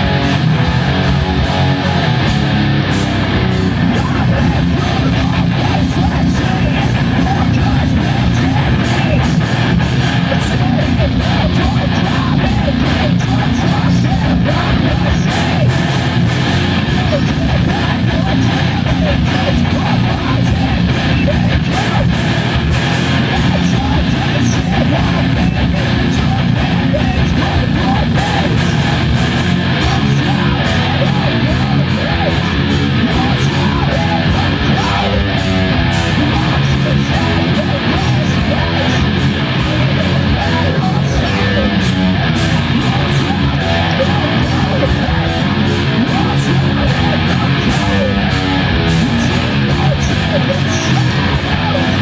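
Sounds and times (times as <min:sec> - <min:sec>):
bass guitar: 0:00.0 - 0:52.0
distorted electric guitars: 0:00.0 - 0:52.0
person singing into a microphone: 0:00.0 - 0:52.0.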